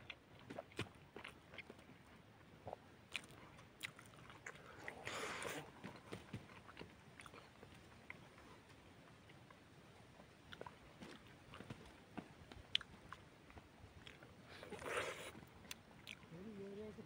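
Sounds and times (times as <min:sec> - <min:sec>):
wet chewing clicks and smacks: 0:00.0 - 0:08.2, 0:10.2 - 0:16.3.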